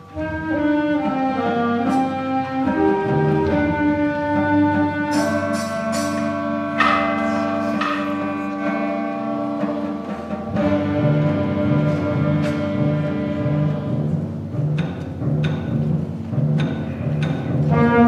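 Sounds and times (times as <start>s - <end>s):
concert band wind chords: 0.0s - 18.0s
struck percussion accents: 3.2s - 18.0s.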